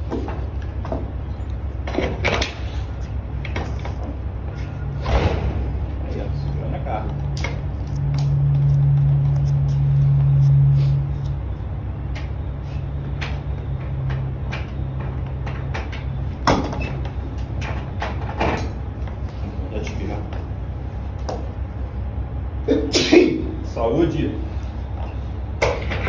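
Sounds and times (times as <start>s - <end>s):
low engine hum: 0.0s - 22.8s.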